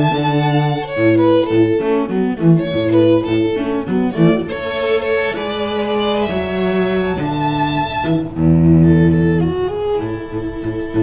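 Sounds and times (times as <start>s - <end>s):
violin and cello classical music: 0.0s - 11.0s.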